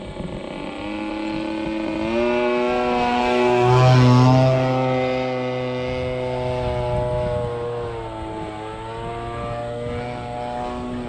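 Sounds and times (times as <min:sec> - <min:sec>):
model plane motor and propeller: 0:00.0 - 0:11.0.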